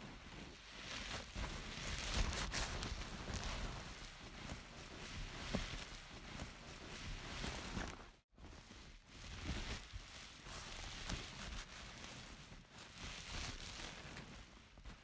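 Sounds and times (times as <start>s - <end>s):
plastic and bubble wrap crinkling: 0.0s - 15.0s.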